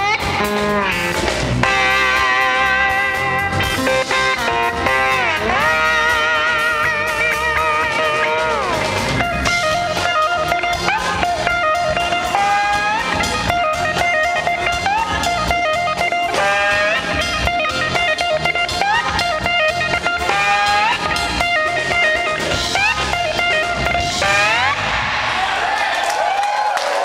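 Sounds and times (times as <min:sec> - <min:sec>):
electric guitar bending notes: 0:00.0 - 0:25.4
bass guitar: 0:00.0 - 0:26.7
drums: 0:00.0 - 0:27.0.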